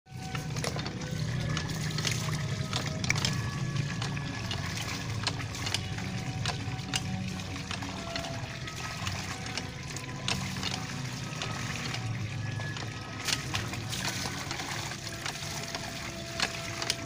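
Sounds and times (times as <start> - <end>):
clothes splashing in water: 0.1 - 17.0
water running into a basin: 0.1 - 17.0.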